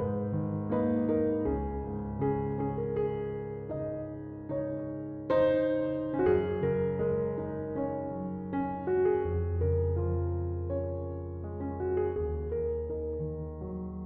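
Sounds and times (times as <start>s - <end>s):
slow calm piano music: 0.0s - 14.0s.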